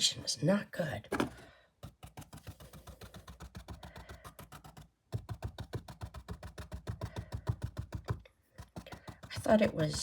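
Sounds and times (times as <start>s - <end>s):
paintbrush tapping on canvas: 1.2s - 10.0s.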